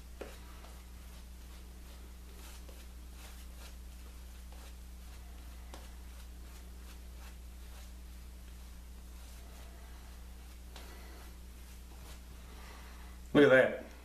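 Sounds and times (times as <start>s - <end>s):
shaving brush swishing: 0.0s - 13.1s
steady low hum: 0.0s - 14.0s.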